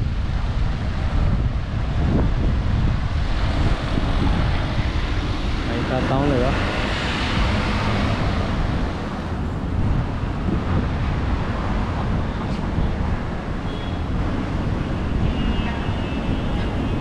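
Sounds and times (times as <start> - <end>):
low rumbling noise: 0.0 - 17.0
wind buffeting microphone: 0.0 - 17.0.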